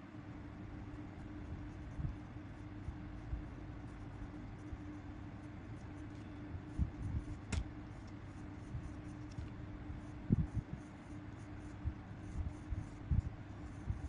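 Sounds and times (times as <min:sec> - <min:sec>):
steady low hum: 0:00.0 - 0:14.0
pencil scratching on paper: 0:00.8 - 0:14.0.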